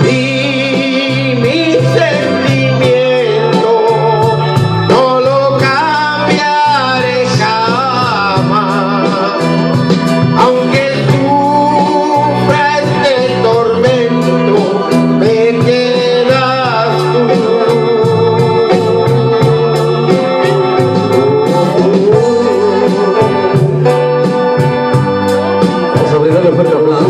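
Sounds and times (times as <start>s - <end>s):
electronic organ with beat: 0.0s - 27.0s
man singing ballad: 0.0s - 27.0s.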